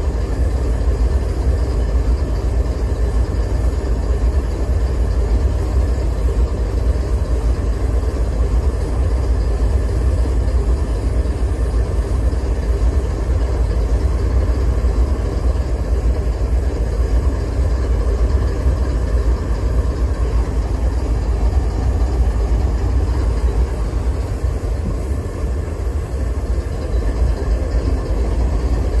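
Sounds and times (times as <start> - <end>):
diesel locomotives idling: 0.0 - 29.0.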